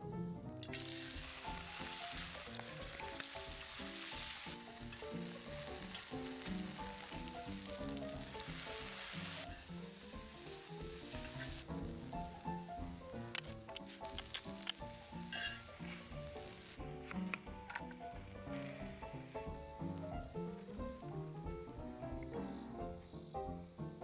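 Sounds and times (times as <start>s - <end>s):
background music: 0.0s - 24.0s
meat sizzling: 0.0s - 24.0s.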